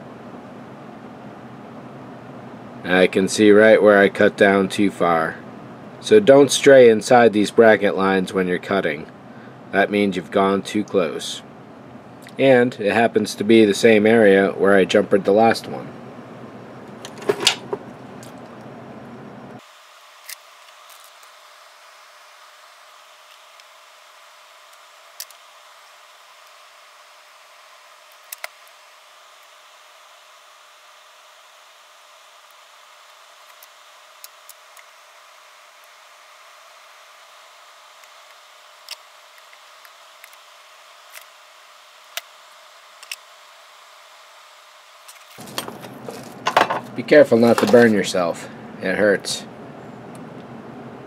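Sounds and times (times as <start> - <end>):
low hum with hiss: 0.0 - 51.0.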